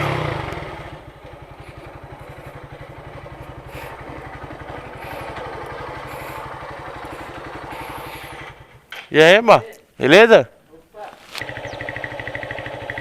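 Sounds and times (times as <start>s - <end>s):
motorcycle engine idling: 0.0s - 8.9s, 11.4s - 13.0s.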